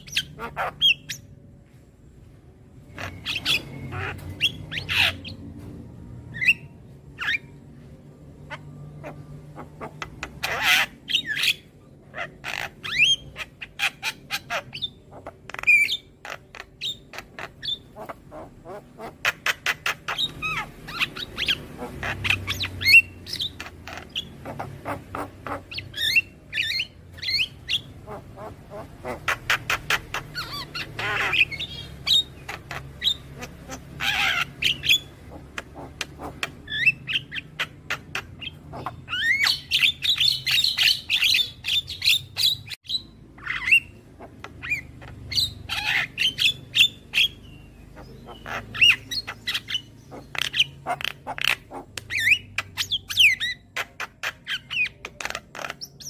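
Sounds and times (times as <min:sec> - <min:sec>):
bird chattering: 0:00.0 - 0:01.3, 0:02.8 - 0:05.4, 0:08.4 - 0:56.0
bird squawks: 0:00.0 - 0:01.3, 0:02.8 - 0:05.4, 0:08.4 - 0:56.0.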